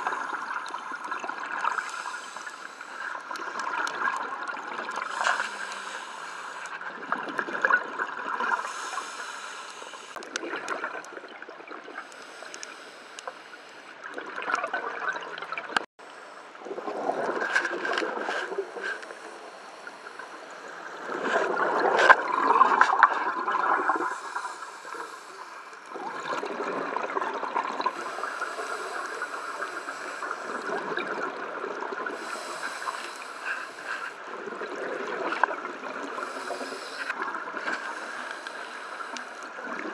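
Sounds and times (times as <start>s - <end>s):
exhaled bubbles gurgling underwater: 0.0s - 13.3s, 13.9s - 15.9s, 16.6s - 39.9s.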